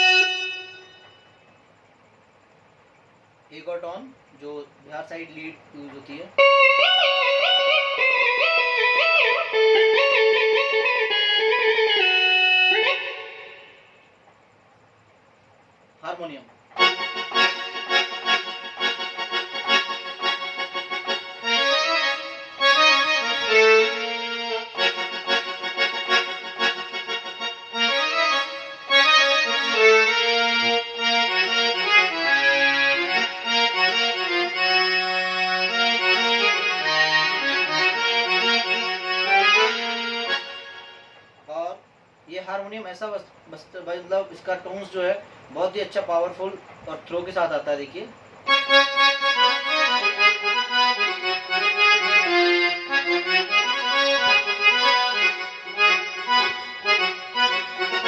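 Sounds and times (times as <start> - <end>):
keyboard harmonium melody: 0.0 - 1.6, 3.5 - 14.0, 16.0 - 41.8, 42.5 - 58.0.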